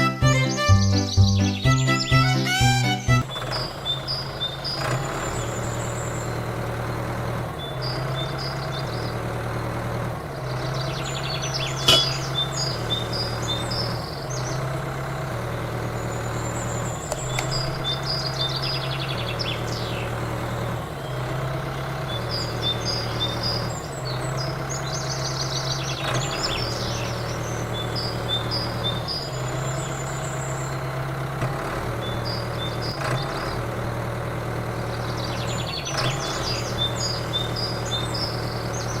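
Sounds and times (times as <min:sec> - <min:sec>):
birds chirping: 0:00.0 - 0:30.9, 0:32.0 - 0:33.7, 0:34.9 - 0:39.0
diesel water pump engine running: 0:00.0 - 0:39.0.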